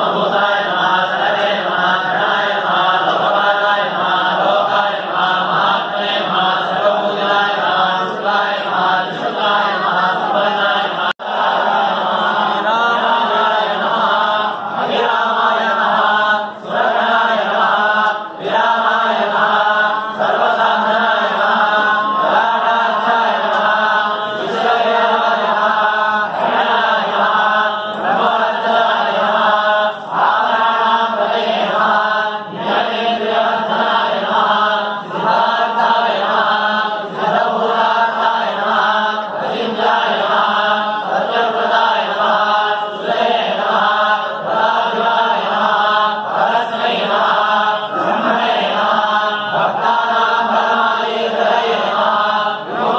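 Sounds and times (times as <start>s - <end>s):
men chanting in unison: 0.0s - 52.9s.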